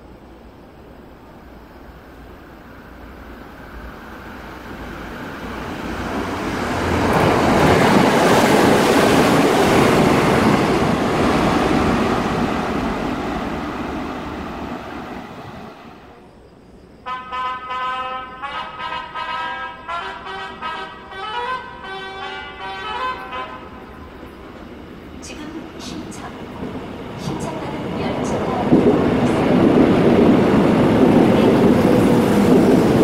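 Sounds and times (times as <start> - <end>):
train wheels rumbling on rails: 0.9 - 16.2, 21.5 - 33.0.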